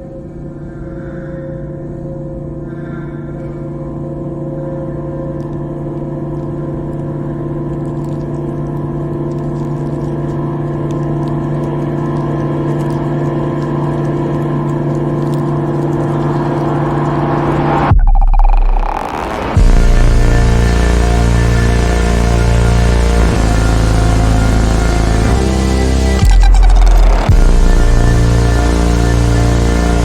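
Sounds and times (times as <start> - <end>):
droning ambient chord: 0.0 - 18.0, 18.6 - 30.0.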